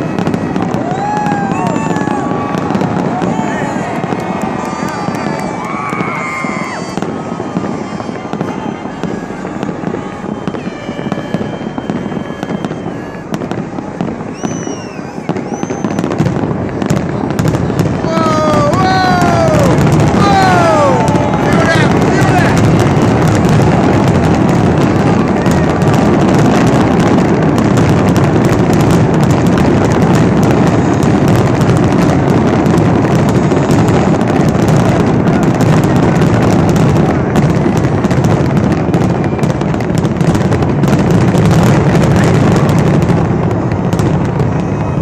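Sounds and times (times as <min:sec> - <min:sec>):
fireworks bursting and crackling: 0:00.0 - 0:45.0.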